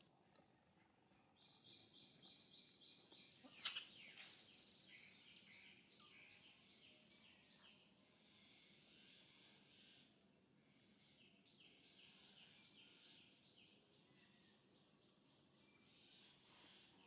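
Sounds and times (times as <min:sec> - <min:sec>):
faint bird chirping: 0:00.0 - 0:17.0.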